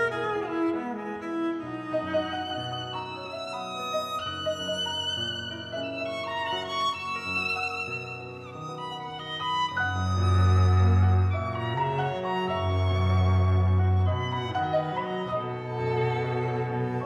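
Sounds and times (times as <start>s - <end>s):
string accompaniment: 0.0s - 17.0s
violin sustained notes: 0.0s - 17.0s.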